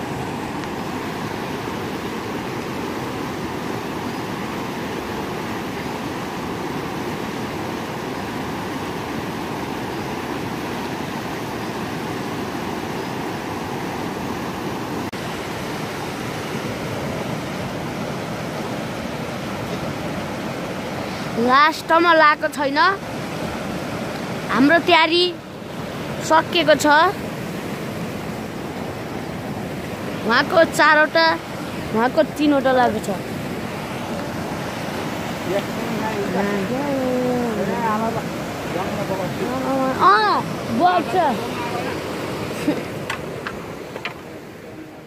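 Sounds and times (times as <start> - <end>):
river rushing over rocks: 0.0 - 45.0.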